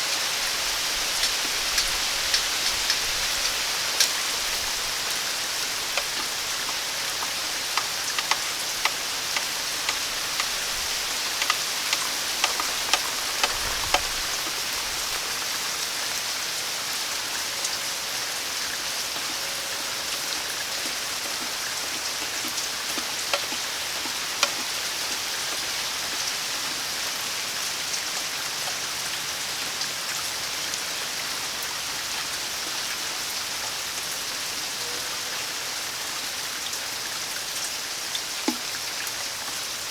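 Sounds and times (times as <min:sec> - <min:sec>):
raindrops tapping nearby: 0:00.0 - 0:30.0, 0:35.8 - 0:39.9
steady rain: 0:00.0 - 0:39.9.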